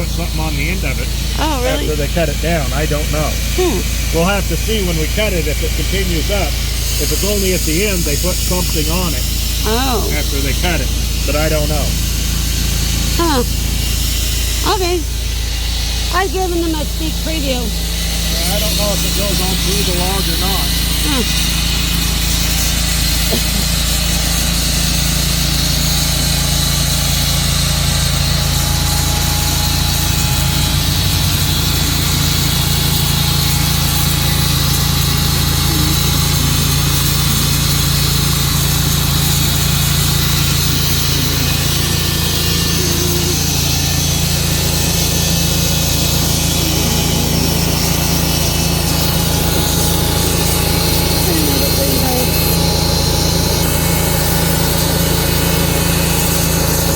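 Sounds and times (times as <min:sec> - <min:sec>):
band saw cutting log: 0:00.0 - 0:56.9.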